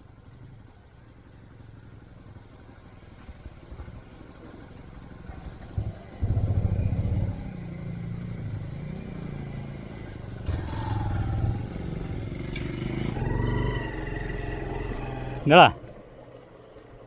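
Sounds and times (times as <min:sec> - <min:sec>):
motorcycle engine revving: 0:01.4 - 0:17.0.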